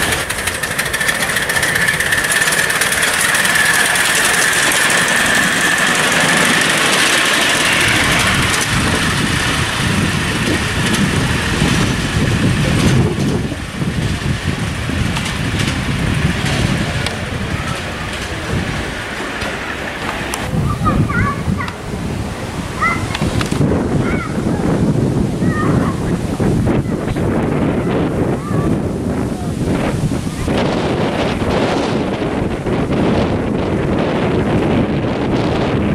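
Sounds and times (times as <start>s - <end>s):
miniature locomotive running: 0.0s - 21.8s, 22.8s - 35.9s.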